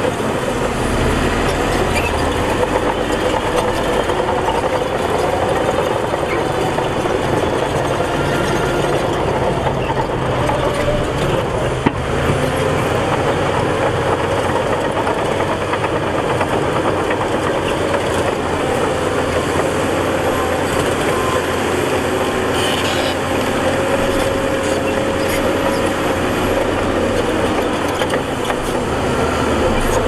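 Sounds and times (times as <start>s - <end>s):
diesel earthmoving machinery running: 0.0s - 30.0s.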